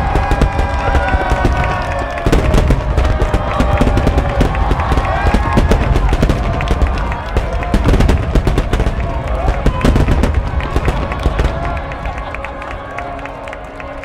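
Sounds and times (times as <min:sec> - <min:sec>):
firework shell bursts rumbling: 0:00.0 - 0:11.7
sharp firework cracks: 0:00.0 - 0:12.2.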